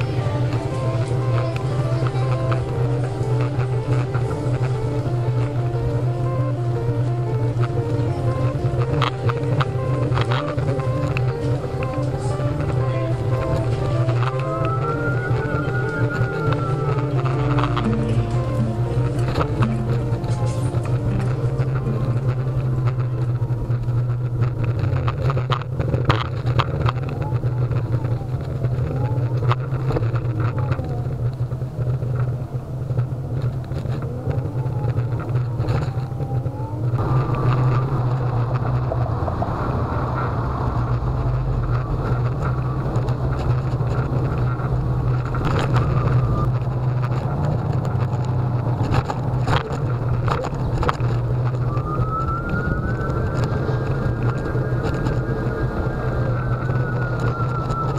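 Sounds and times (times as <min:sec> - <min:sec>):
hub motor whine: 0:00.0 - 0:57.9
low hum and rolling noise: 0:00.0 - 0:57.9
scattered clicks: 0:00.0 - 0:57.9.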